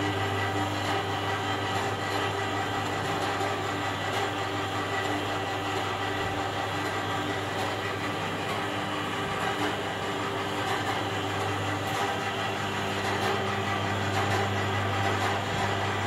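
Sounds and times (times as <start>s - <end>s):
pipe bender motor humming: 0.0s - 16.0s.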